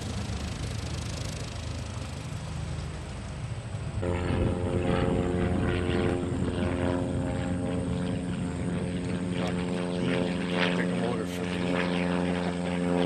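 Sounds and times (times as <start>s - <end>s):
light airplane engine droning overhead: 0.0s - 13.0s.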